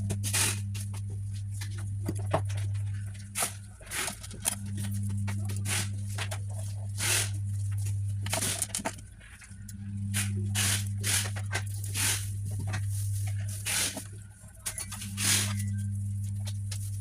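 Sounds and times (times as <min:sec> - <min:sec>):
low electrical hum: 0:00.0 - 0:17.0
clicks and scrapes of small parts: 0:01.6 - 0:17.0.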